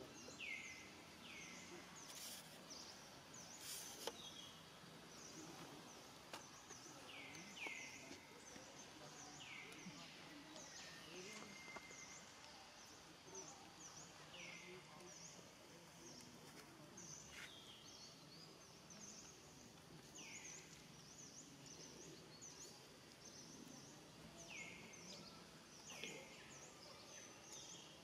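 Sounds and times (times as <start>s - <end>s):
faint outdoor ambience: 0.0s - 28.0s.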